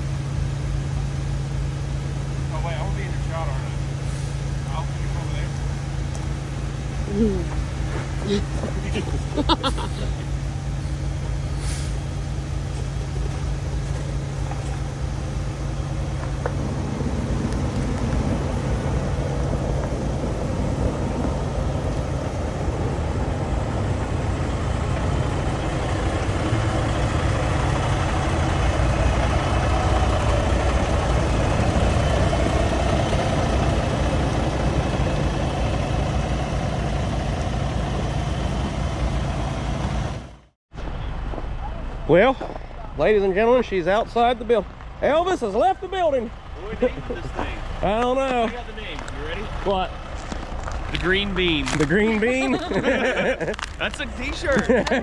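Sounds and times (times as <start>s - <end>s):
diesel truck engine idling: 0.0s - 40.6s, 43.0s - 55.0s.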